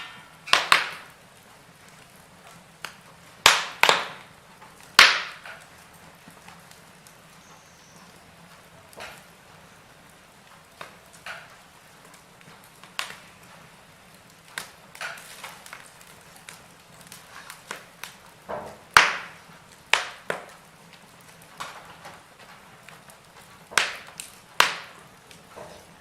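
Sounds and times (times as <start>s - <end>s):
faint steady hiss: 0.0s - 26.0s
fire crackling and popping: 0.0s - 26.0s.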